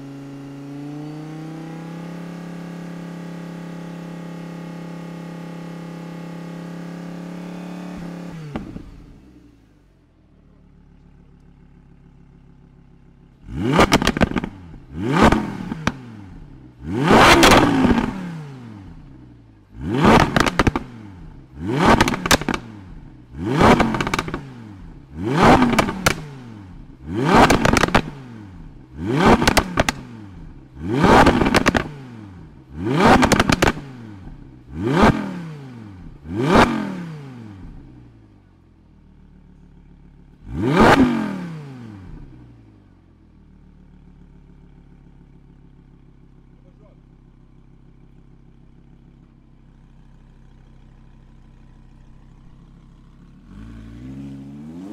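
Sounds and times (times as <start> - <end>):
car engine revving: 0.0 - 9.6, 11.4 - 38.4, 39.3 - 42.9, 47.8 - 54.9.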